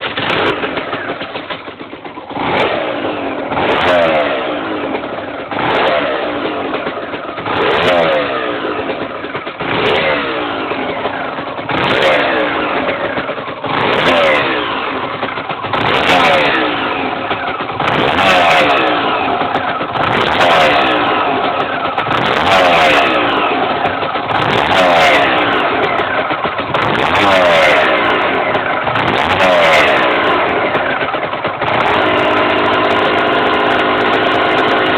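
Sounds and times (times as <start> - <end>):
two-stroke engine revving: 0.0 - 34.9.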